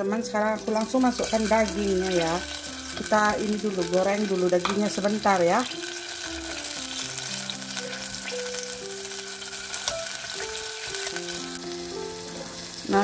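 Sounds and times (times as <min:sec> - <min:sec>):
soft background music: 0:00.0 - 0:13.0
meat sizzling in oil: 0:00.3 - 0:13.0.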